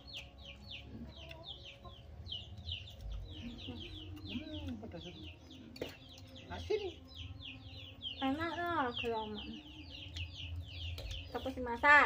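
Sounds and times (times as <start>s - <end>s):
chickens chirping: 0.0s - 12.0s
chickens clucking: 0.0s - 12.0s.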